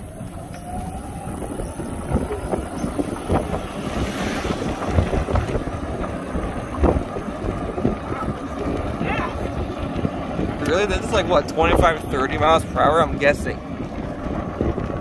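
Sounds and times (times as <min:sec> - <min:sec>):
vehicle low rumble: 0:00.0 - 0:15.0
wind buffeting microphone: 0:00.0 - 0:15.0.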